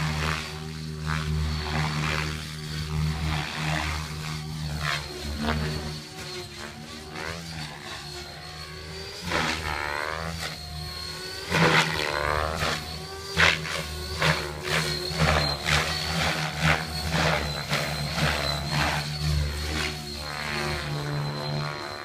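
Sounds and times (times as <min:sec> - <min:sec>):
high motor whine: 0:00.0 - 0:22.0
rotor blades whooshing: 0:00.0 - 0:22.0.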